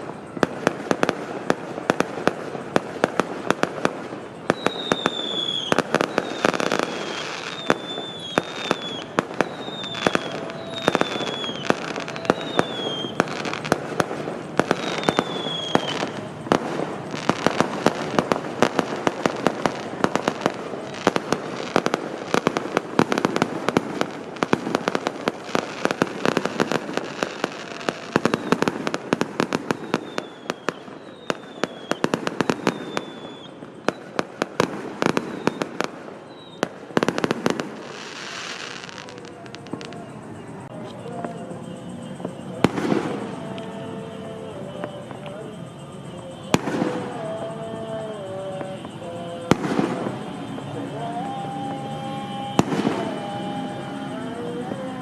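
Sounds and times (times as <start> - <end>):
fireworks bangs and crackles: 0.0 - 55.0
high firework whistles: 0.0 - 55.0.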